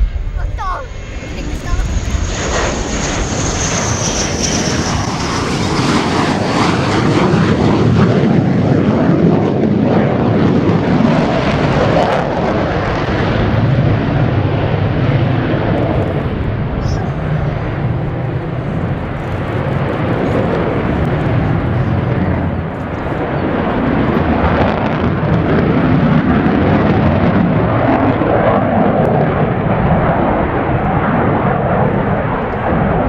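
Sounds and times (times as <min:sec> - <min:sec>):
fighter jet rushing rumble: 0:00.0 - 0:33.0.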